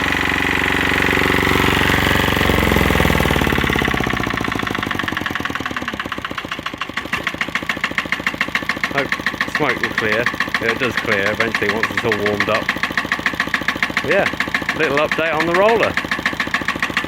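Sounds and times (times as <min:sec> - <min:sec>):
diesel engine revving and idling: 0:00.0 - 0:17.0.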